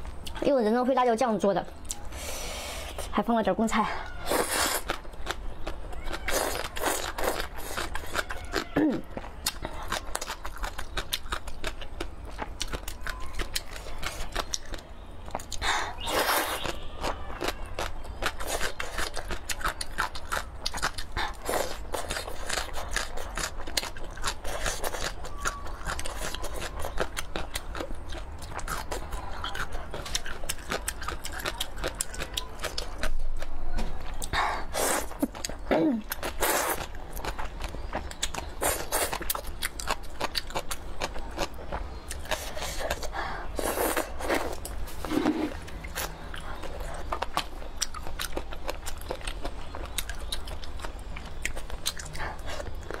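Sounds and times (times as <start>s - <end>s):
wet chewing: 4.0s - 53.0s.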